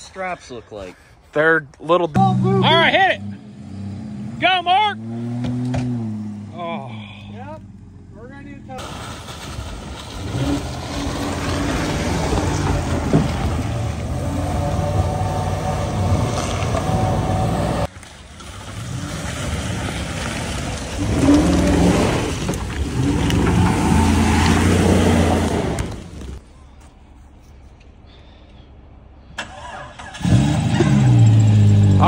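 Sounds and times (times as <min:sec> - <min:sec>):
vehicle engines revving: 0:02.1 - 0:26.4, 0:29.6 - 0:32.0.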